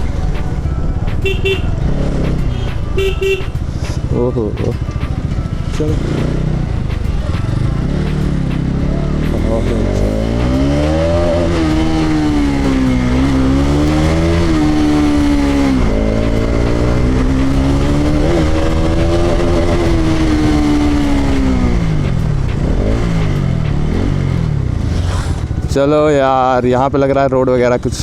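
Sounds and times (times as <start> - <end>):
motorcycle engine revving: 0.0 - 27.3.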